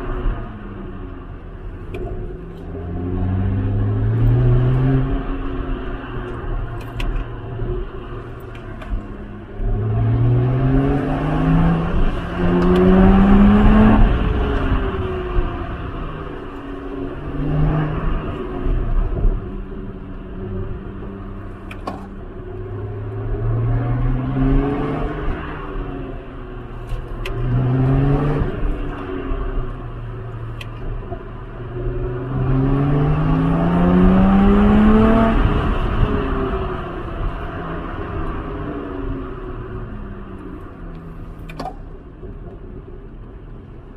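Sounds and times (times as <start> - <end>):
car engine revving: 0.0 - 43.8.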